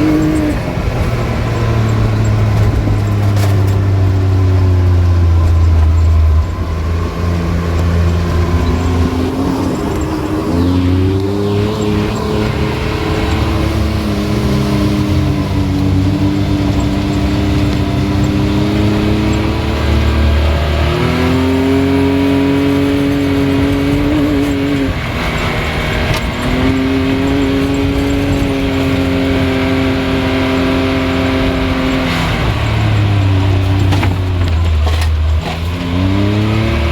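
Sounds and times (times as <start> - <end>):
off-road vehicle engine under load: 0.0 - 36.9.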